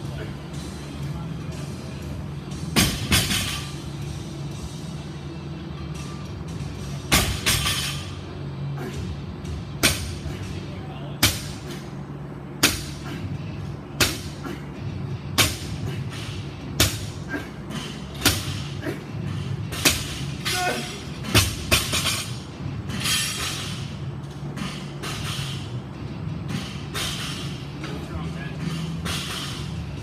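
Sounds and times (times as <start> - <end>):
faint music: 0.0 - 30.0.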